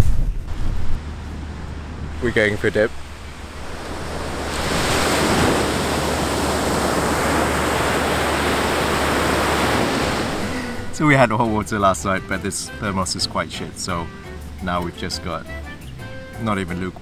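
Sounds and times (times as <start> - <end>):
surf breaking on beach: 0.0 - 15.4.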